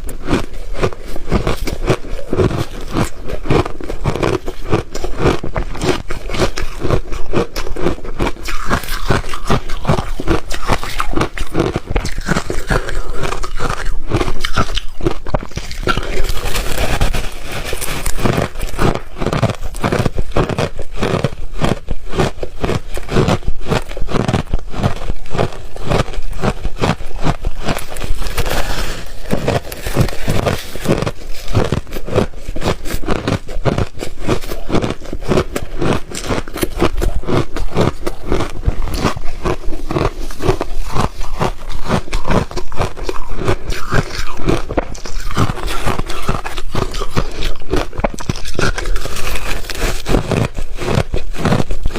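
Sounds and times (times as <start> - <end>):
ice being chewed and crunched: 0.0 - 51.9.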